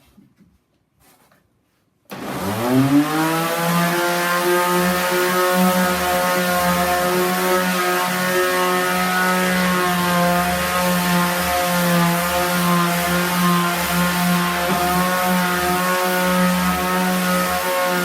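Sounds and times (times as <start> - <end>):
electric sander running: 2.1 - 18.0.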